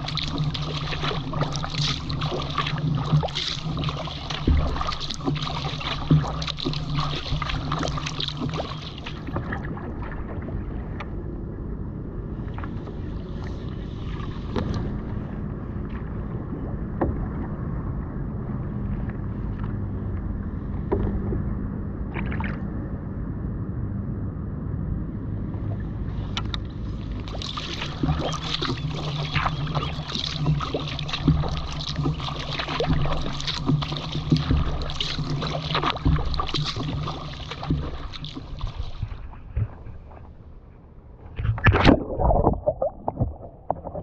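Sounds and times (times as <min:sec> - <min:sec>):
paddle splashing water: 0:00.0 - 0:11.3, 0:12.4 - 0:21.5, 0:22.1 - 0:22.7, 0:25.6 - 0:40.6, 0:41.2 - 0:44.0
water rushing along hull: 0:00.0 - 0:44.0.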